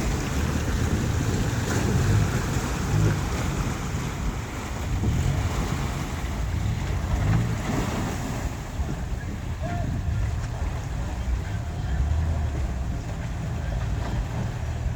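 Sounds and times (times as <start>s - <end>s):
river water rushing: 0.0s - 14.9s
vehicle engine rumble: 0.0s - 14.9s
wind buffeting microphone: 0.0s - 14.9s.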